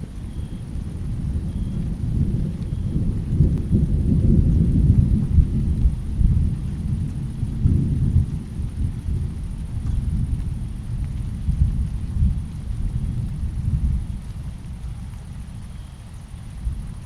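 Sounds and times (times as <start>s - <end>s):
faint rain hiss: 0.0s - 17.0s
low rolling thunder: 0.0s - 17.0s.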